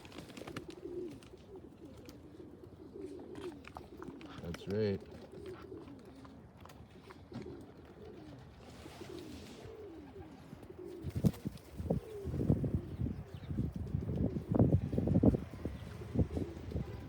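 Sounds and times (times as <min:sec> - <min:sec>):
pigeon cooing: 0:00.0 - 0:17.0.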